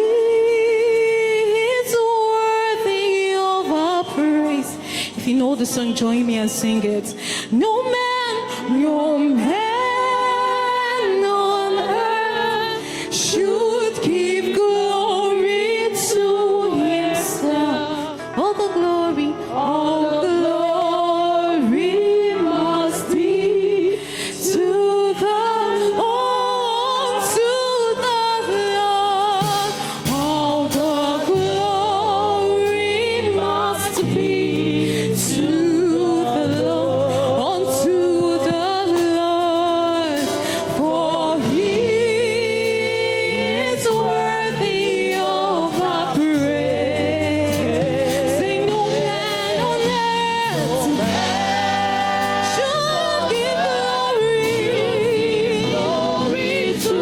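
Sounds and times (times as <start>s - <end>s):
gospel song with band: 0.0s - 57.0s.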